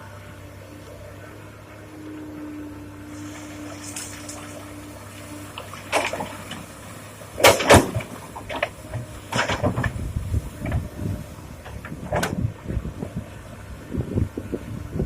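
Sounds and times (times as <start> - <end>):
excavator diesel engine hum: 0.0 - 15.0.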